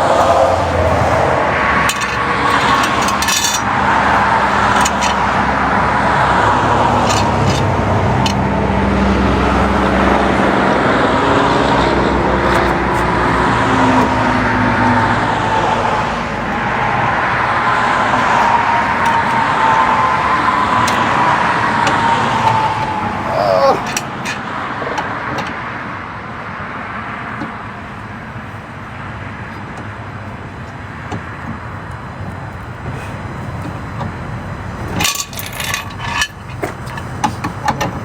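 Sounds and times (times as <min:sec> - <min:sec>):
car and road noise: 0:00.0 - 0:38.0.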